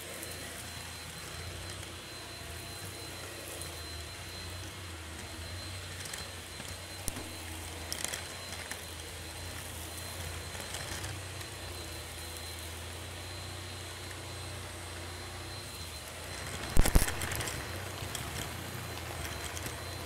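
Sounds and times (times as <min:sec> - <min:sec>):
stick vacuum running: 0:00.0 - 0:20.0.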